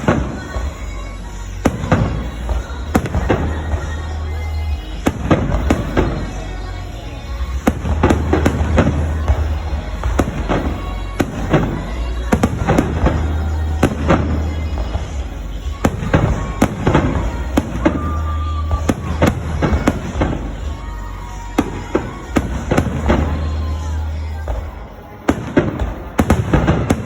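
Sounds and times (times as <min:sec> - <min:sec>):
fireworks banging and crackling: 0:00.0 - 0:27.0.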